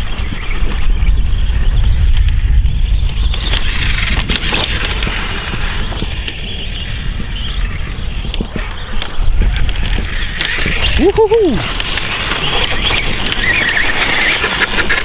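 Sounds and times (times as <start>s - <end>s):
low wind rumble on microphone: 0.0s - 15.0s
toy dirt bike motor running: 0.1s - 15.0s
tyres clicking on gravel: 2.2s - 15.0s.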